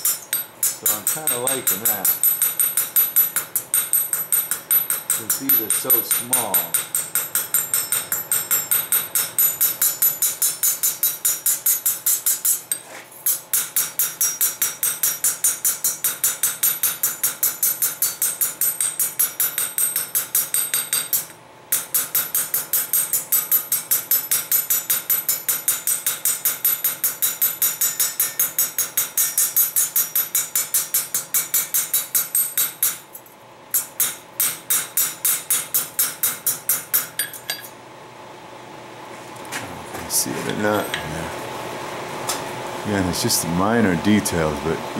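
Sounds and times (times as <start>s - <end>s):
hammer striking steel: 0.0s - 37.7s.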